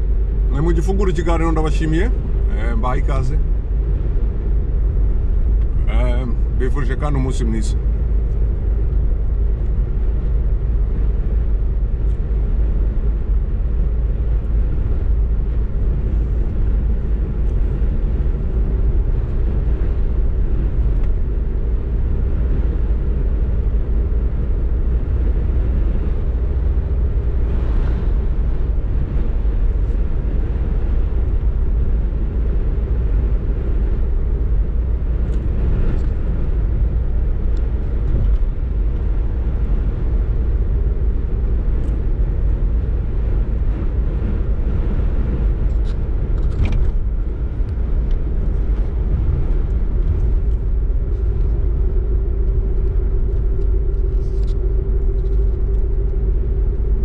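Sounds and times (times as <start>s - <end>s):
car driving at road speed: 0.0s - 57.0s
tyre and engine noise: 0.0s - 57.0s.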